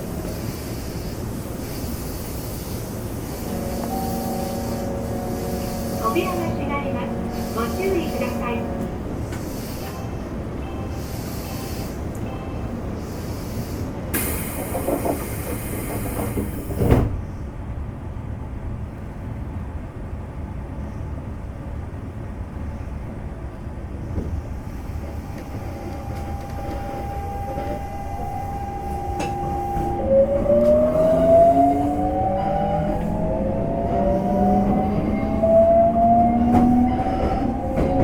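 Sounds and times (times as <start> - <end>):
low rumble of train car: 0.0 - 38.0.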